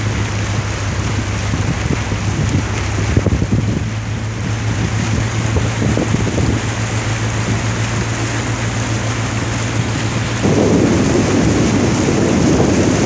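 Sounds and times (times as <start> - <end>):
boat motor humming: 0.0 - 13.0
wind buffeting microphone: 0.0 - 13.0.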